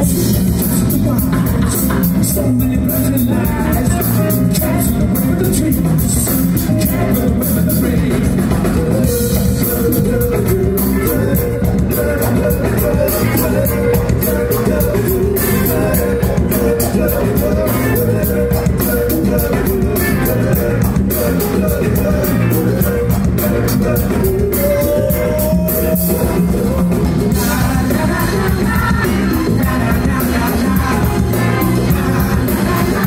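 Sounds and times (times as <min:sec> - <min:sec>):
bass guitar: 0:00.0 - 0:33.0
drum kit beat: 0:00.0 - 0:33.0
keyboards: 0:00.0 - 0:33.0
person singing: 0:00.0 - 0:33.0.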